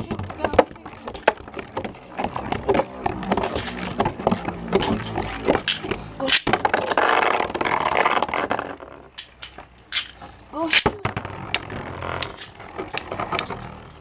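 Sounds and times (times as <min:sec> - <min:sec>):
spinning tops whirring scrape: 0:02.2 - 0:13.8.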